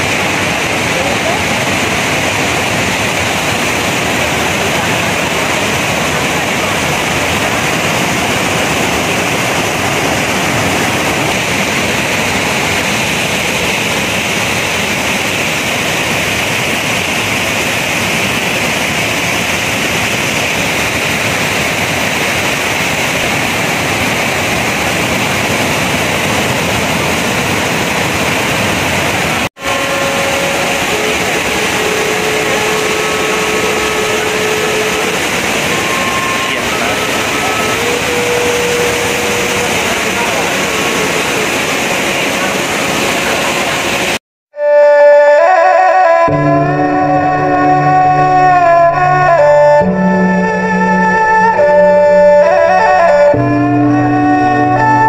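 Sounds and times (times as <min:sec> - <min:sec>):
waterfall crashing onto rocks: 0:00.0 - 0:44.2.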